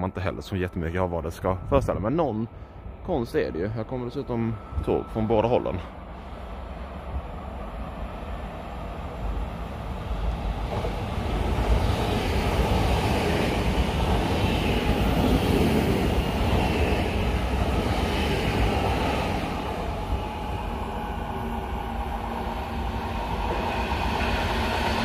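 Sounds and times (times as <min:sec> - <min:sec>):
electric train rumbling along track: 0:00.0 - 0:25.0.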